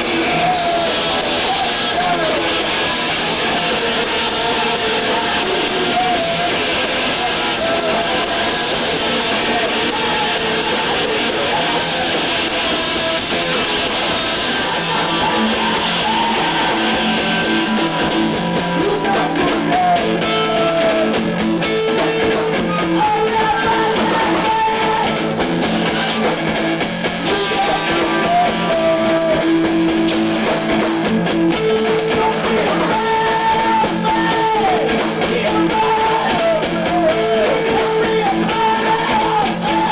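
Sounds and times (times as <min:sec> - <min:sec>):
rock music with electric guitars: 0:00.0 - 0:39.9.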